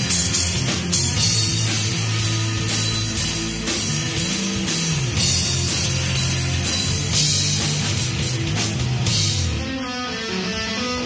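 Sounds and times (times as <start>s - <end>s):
cymbals struck in a steady beat: 0.0s - 9.5s
drum kit: 0.0s - 11.0s
electric bass: 0.0s - 11.0s
electric guitar: 0.0s - 11.0s.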